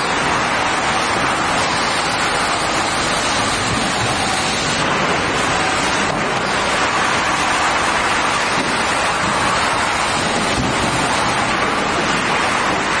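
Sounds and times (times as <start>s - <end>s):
sanding machine running: 0.0s - 13.0s.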